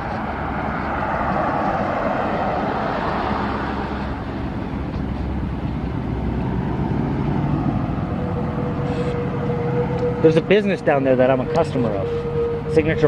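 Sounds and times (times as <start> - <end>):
engine roar of passing vehicles: 0.0 - 13.0.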